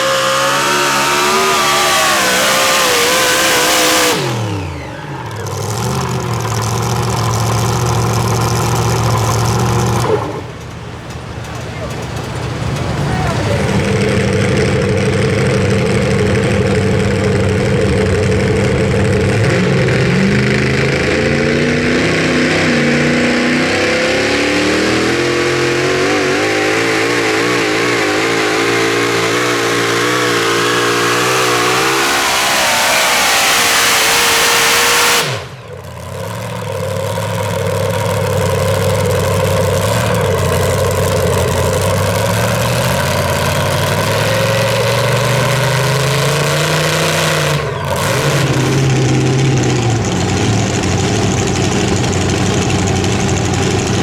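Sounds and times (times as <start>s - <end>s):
pulling truck engine at full throttle: 0.0s - 54.0s.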